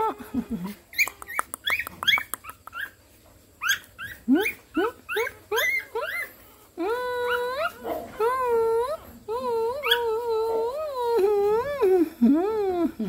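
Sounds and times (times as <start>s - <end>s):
puppy whimpering and yelping: 0.0s - 3.0s, 3.6s - 13.0s.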